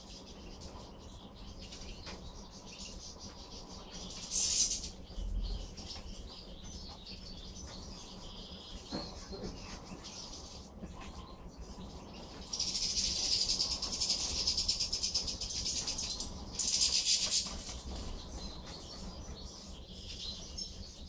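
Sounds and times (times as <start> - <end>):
finches twittering and chirping: 0.0 - 21.0.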